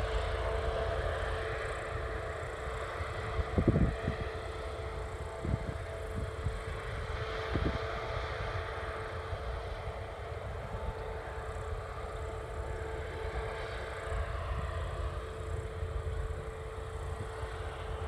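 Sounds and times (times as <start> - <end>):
harvest machinery engine drone: 0.0 - 18.0.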